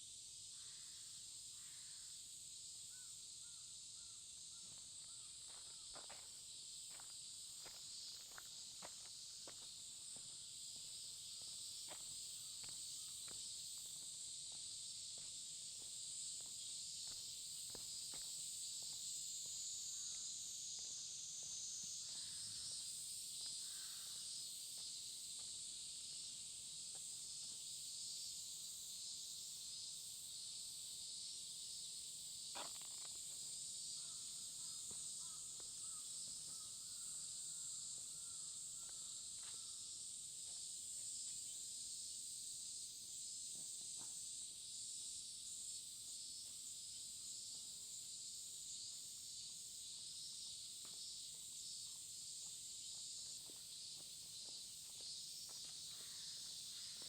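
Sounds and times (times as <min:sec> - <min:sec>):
summer insects chorus: 0:00.0 - 0:57.0.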